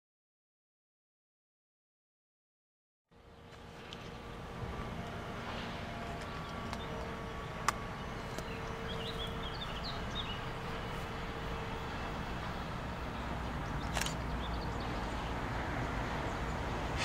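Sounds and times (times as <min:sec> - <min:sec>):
distant steam locomotive rumble: 0:03.1 - 0:17.0
birds chirping: 0:03.2 - 0:17.0.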